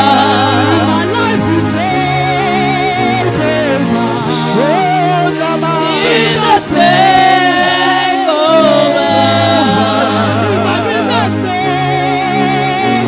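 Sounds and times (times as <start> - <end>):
voices singing with vibrato: 0.0 - 13.0.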